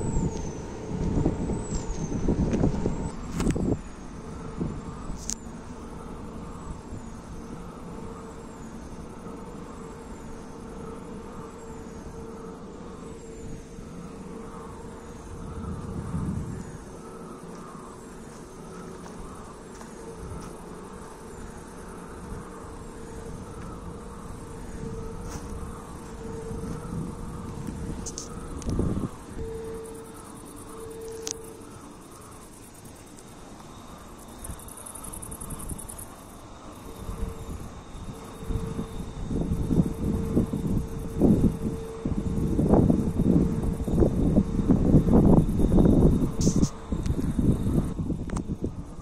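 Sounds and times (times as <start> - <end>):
wind turbines humming: 0.0 - 49.0.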